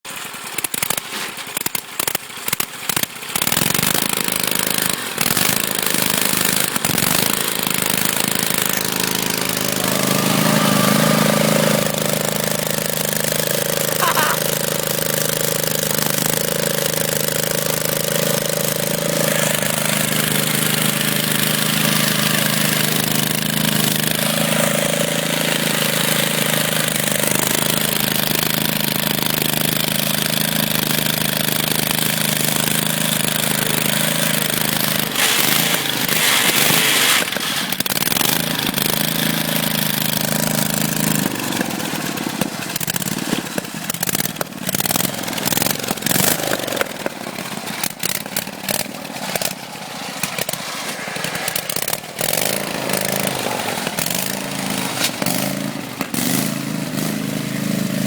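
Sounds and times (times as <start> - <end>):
tractor engine at high revs: 0.0 - 58.0.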